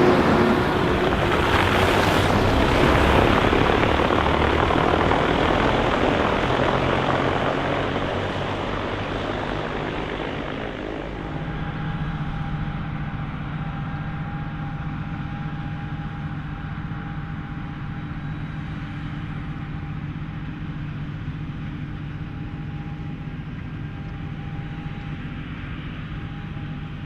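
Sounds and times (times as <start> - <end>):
diesel engine droning: 0.0 - 27.0
thin steady whine: 0.0 - 27.0.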